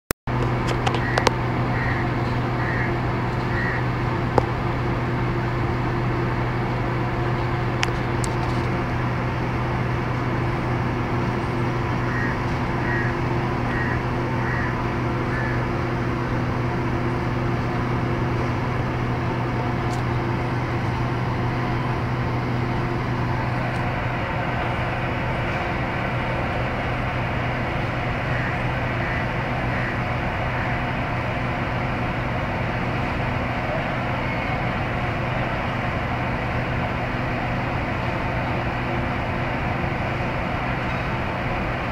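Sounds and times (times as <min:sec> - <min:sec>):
motor humming: 0:00.3 - 0:41.9.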